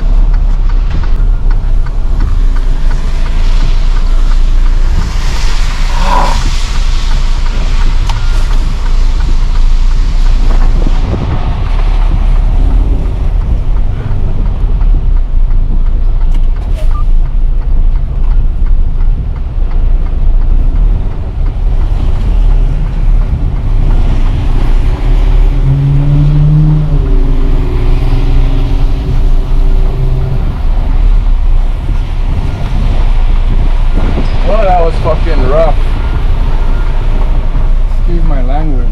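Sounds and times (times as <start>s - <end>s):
diesel truck engine rumbling: 0.0s - 38.9s.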